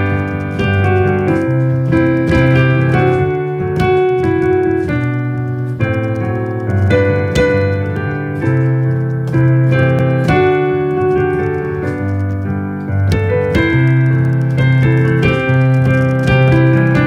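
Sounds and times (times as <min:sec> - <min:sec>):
slow piano folk tune: 0:00.0 - 0:17.0.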